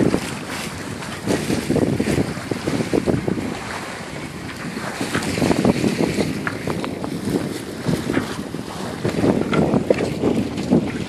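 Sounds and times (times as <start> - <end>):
water rushing along a hull: 0.0 - 11.0
wind buffeting microphone: 0.0 - 11.0.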